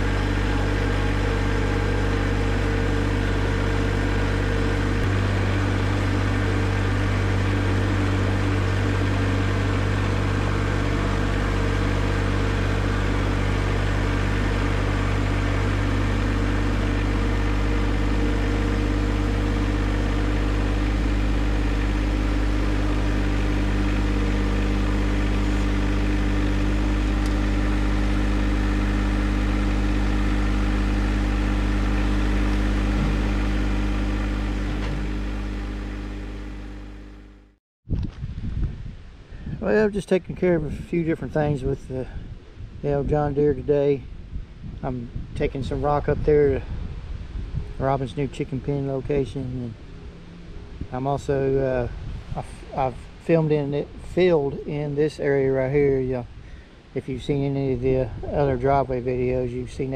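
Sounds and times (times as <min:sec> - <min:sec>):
tractor diesel engine running: 0:00.0 - 0:37.6, 0:38.4 - 0:59.9.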